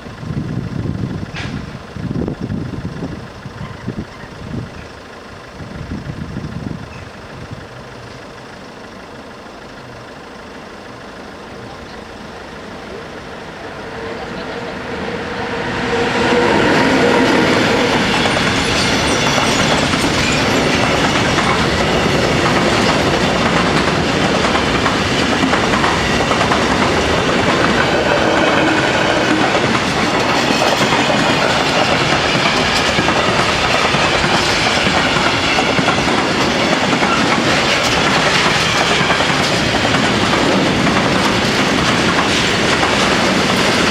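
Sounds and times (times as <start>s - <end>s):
train passing: 0.0s - 43.9s
wheels clacking over rail joints: 0.0s - 43.9s.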